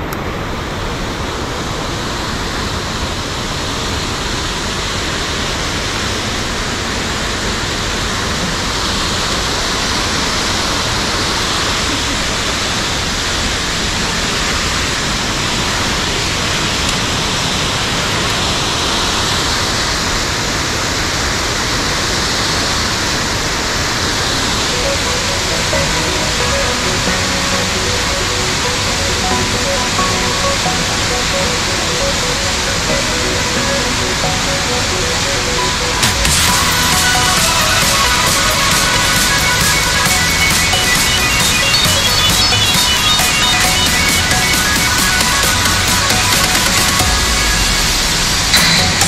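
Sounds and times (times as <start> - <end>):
whitewater rushing: 0.0 - 49.0.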